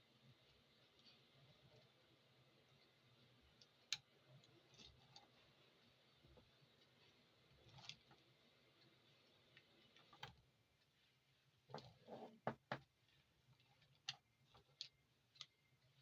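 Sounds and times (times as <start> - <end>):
faint clicks and taps: 0.2 - 16.0.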